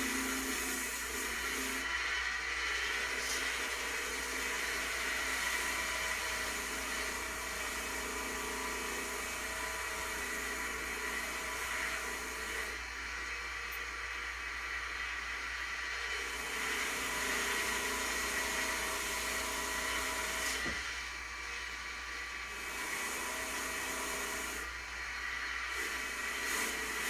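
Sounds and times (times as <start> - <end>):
small electric tool whirring: 0.0 - 27.0.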